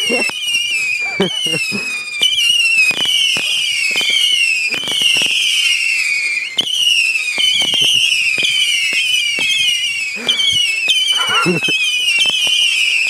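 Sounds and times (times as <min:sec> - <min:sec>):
firework bangs and cracks: 0:00.0 - 0:13.0
firework whistles falling in pitch: 0:00.0 - 0:13.0.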